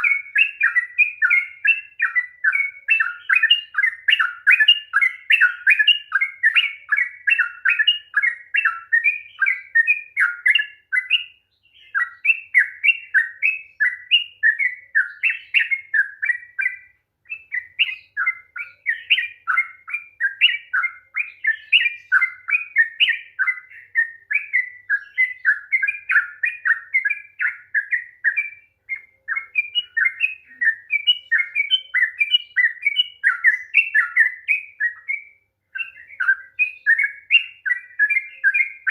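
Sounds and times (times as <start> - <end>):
bird singing rapid song: 0.0 - 38.9.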